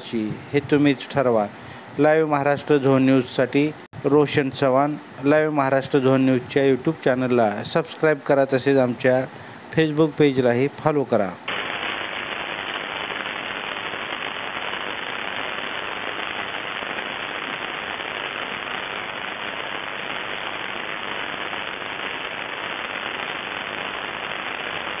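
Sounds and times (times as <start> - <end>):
static hiss: 0.0 - 25.0.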